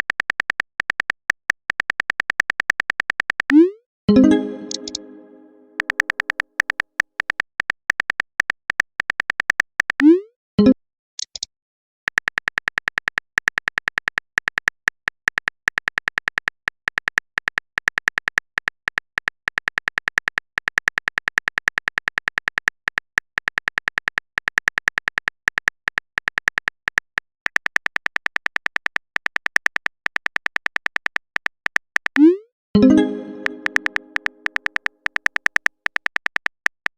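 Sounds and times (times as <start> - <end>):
phone keyboard typing clicks: 4.2 - 5.2, 5.8 - 10.2, 12.1 - 36.9.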